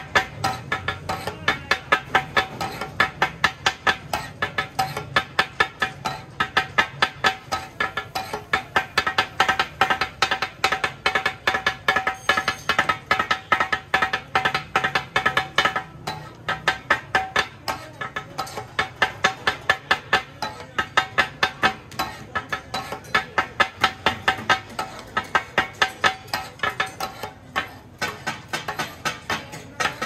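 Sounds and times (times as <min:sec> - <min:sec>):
metal spatulas clanging on griddle: 0:00.0 - 0:30.0.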